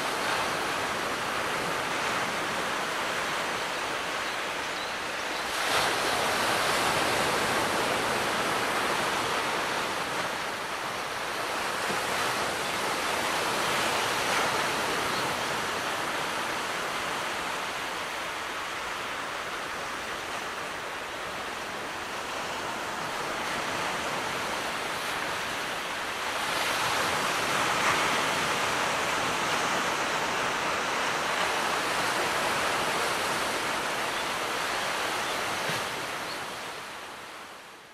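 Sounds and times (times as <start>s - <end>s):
sea waves washing onto shore: 0.0s - 37.9s.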